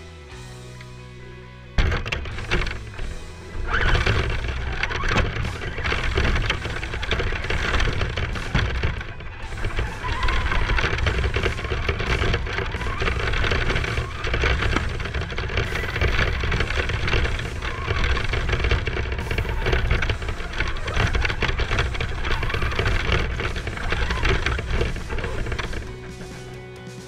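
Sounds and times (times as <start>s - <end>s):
rc car rumbling and rattling: 0.0s - 27.0s.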